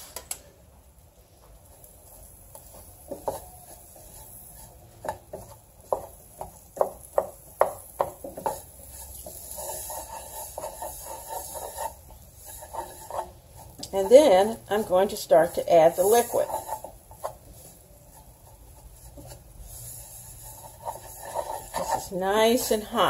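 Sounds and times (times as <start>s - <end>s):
wooden spoon scraping a saucepan: 1.7s - 23.0s.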